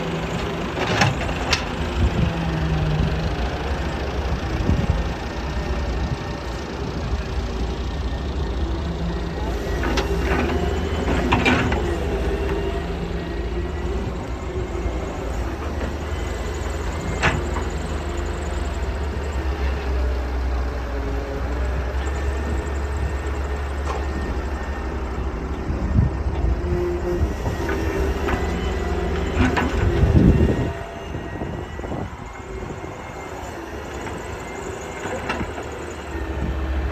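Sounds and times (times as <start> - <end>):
excavator diesel engine rumbling: 0.0 - 36.9.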